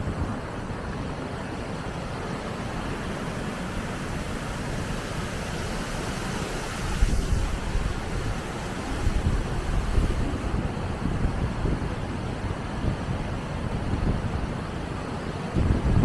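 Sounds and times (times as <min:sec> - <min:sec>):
river water rushing through dam: 0:00.0 - 0:16.0
wind buffeting microphone: 0:02.4 - 0:16.0.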